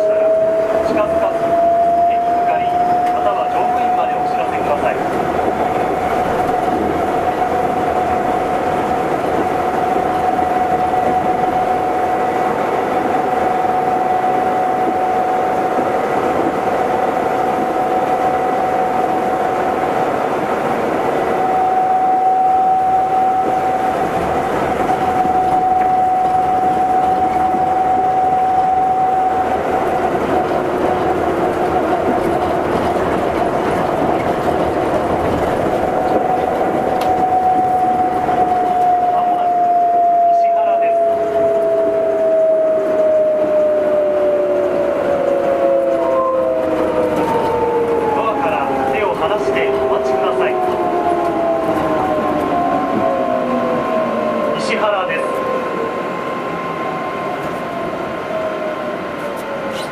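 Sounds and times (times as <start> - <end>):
train drive whine: 0.0 - 59.9
train running noise: 0.0 - 59.9.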